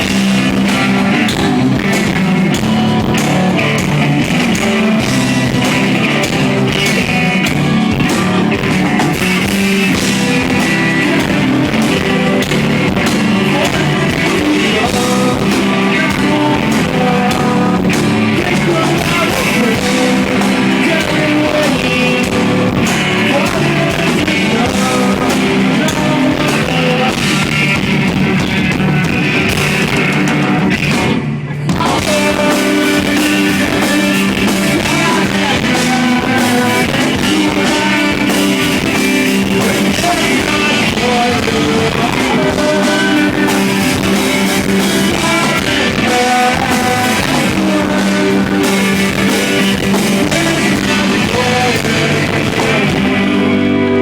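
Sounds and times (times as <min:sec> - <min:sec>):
person singing: 0:00.0 - 0:30.6, 0:31.5 - 0:54.0
drum kit beat: 0:00.0 - 0:54.0
electric guitars: 0:00.0 - 0:54.0.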